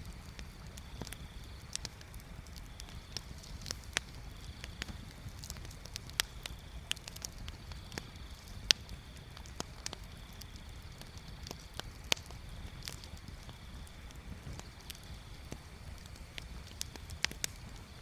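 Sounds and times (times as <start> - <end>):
fire pops and snaps: 0.0 - 18.0
wood bonfire crackling: 0.0 - 18.0.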